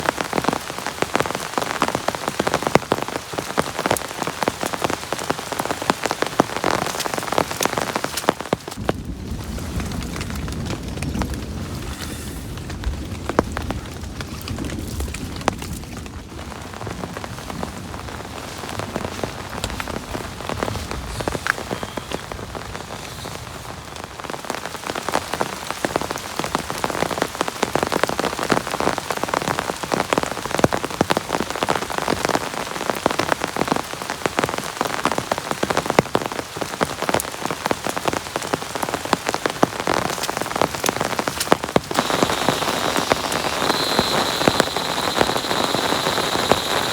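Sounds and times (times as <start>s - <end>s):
heavy rain on a surface: 0.0s - 46.9s.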